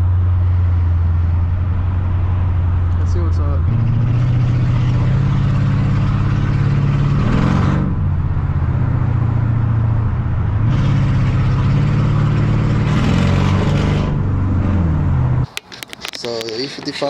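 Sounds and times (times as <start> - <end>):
car engine revving: 0.0 - 15.5.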